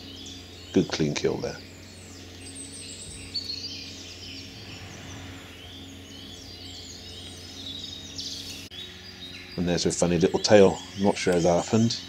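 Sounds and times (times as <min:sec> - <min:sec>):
birds chirping and trilling: 0:00.0 - 0:12.0
faint low hum: 0:00.0 - 0:12.0.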